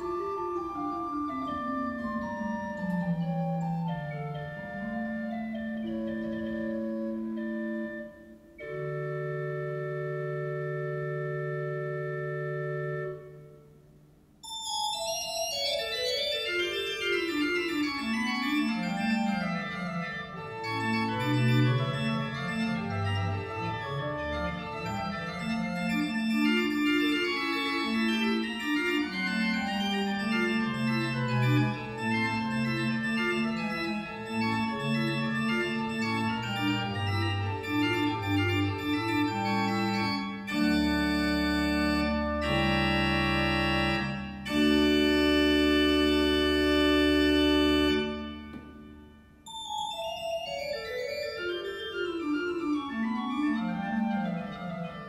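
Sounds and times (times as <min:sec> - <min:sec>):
pipe organ playing: 0:00.0 - 0:55.0.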